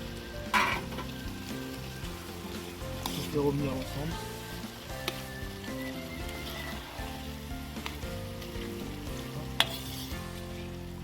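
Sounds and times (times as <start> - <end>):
background music: 0.0 - 11.0
food sizzling in a pan: 0.0 - 11.0.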